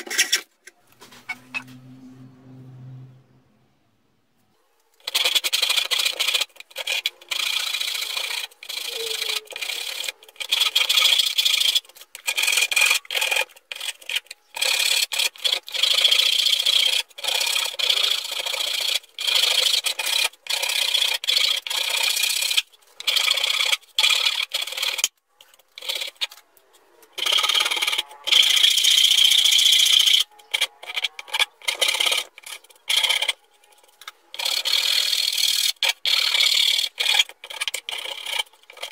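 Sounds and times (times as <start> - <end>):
wood rasp scraping board: 5.0 - 26.4, 27.2 - 38.9.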